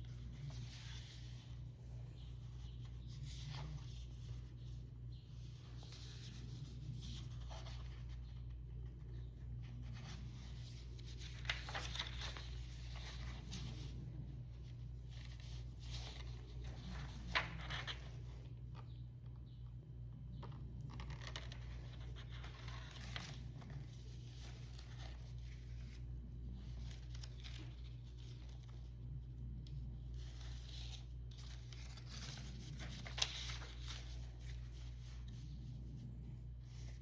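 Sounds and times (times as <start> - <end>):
paper rustling and crinkling: 0.0 - 18.9, 20.4 - 37.0
low electrical hum: 0.0 - 37.0.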